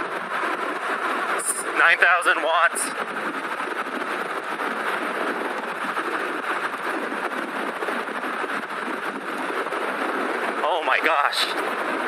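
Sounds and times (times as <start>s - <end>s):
rush of wind: 0.0s - 12.0s.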